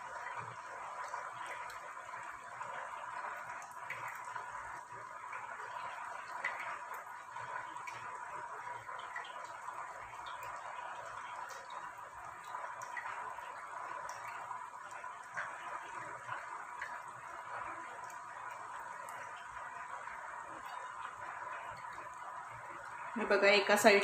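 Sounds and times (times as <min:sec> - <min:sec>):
deep-frying sizzle with crackles: 0:00.0 - 0:24.0.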